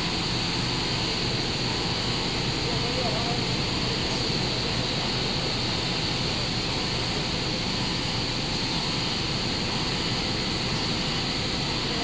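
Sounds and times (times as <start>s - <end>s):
machine hiss and hum: 0.0s - 12.0s.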